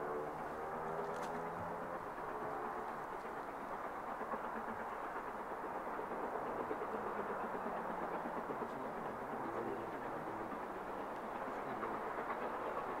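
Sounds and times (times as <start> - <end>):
steam train rumbling on rails: 0.0 - 13.0.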